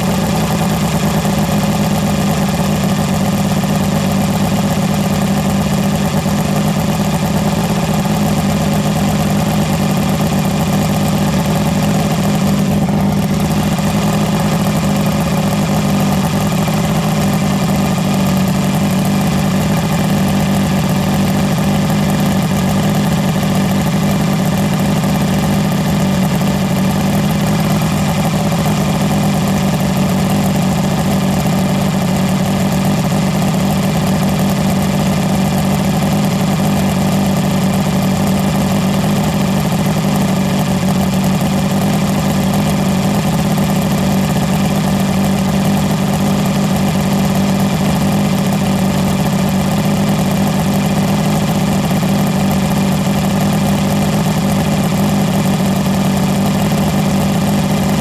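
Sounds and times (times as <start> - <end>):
outboard motor idling: 0.0 - 58.0.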